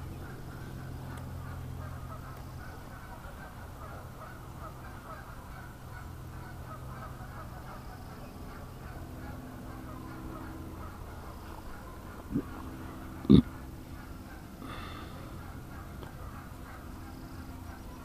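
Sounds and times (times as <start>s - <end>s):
birds chattering: 0.0s - 18.0s
low steady hum: 0.0s - 18.0s.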